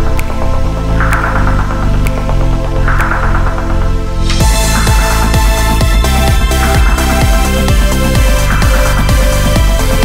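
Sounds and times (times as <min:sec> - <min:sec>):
electronic dance music: 0:00.0 - 0:10.0
deep kick drums: 0:00.6 - 0:10.0.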